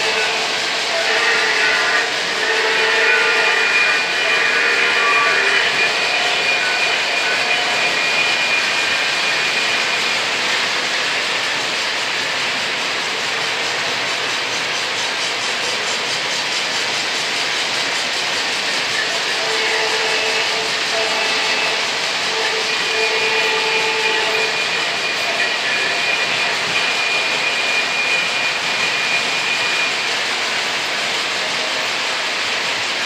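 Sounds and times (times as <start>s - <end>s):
model trains rolling on track: 0.0s - 33.0s.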